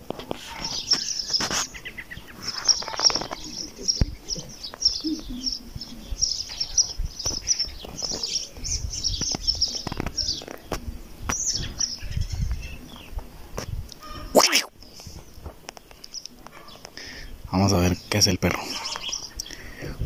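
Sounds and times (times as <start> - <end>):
small birds chirping: 0.2 - 20.0.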